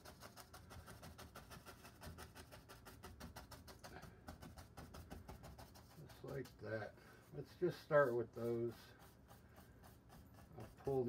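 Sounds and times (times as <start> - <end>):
brush scratching on canvas: 0.0 - 11.0.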